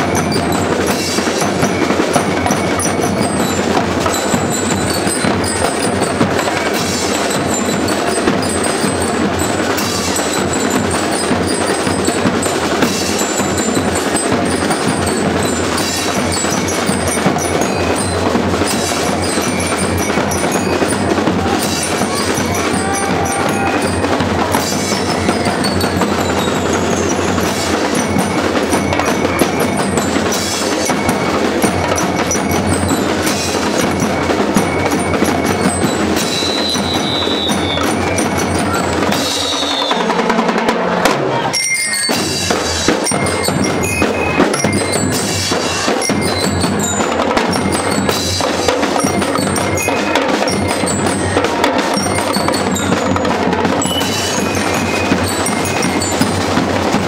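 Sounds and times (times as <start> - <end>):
bell lyres ringing melody: 0.0 - 40.3, 41.5 - 57.0
marching band playing: 0.0 - 57.0.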